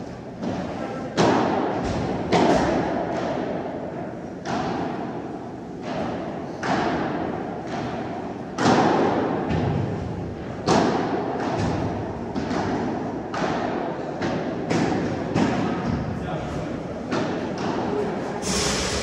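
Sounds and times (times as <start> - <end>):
paddle hitting ball: 0.4 - 3.8, 4.4 - 16.2, 17.1 - 17.9.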